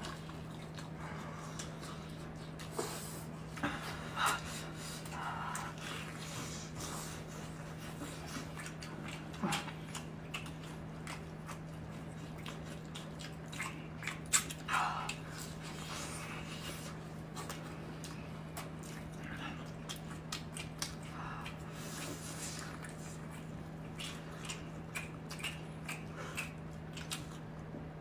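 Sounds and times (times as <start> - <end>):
chewing and mouth smacks: 0.0 - 28.0.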